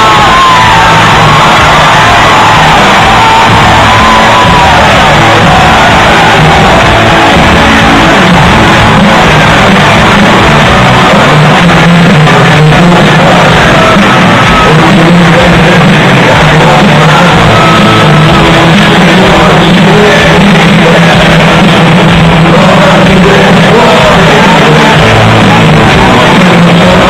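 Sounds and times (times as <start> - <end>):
live rock music: 0.0 - 27.0.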